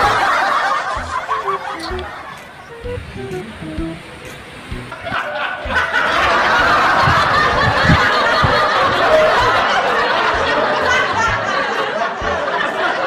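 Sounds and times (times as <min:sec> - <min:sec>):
people laughing: 0:00.0 - 0:03.5, 0:04.9 - 0:13.0.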